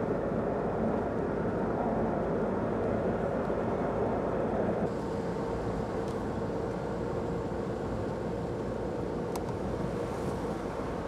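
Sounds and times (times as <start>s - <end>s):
car engine and road noise drone: 0.0s - 11.0s.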